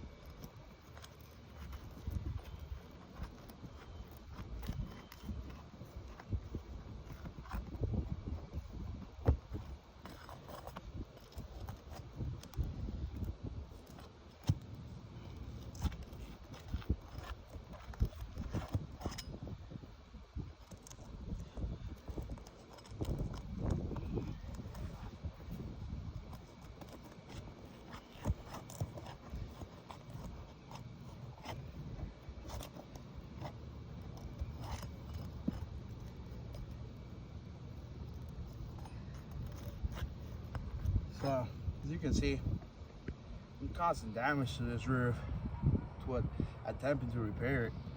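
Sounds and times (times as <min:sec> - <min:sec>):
roofing tool scraping under shingles: 0:00.1 - 0:42.6.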